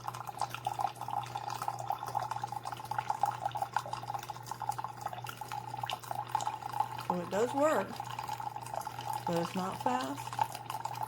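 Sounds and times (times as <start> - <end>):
coffee machine humming: 0.0 - 11.0
coffee trickling into a cup: 0.0 - 11.0.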